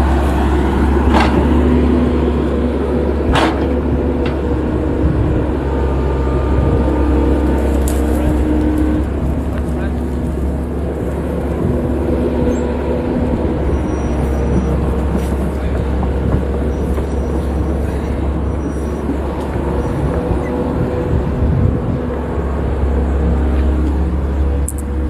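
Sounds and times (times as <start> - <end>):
engine deep rumble: 0.0 - 25.0.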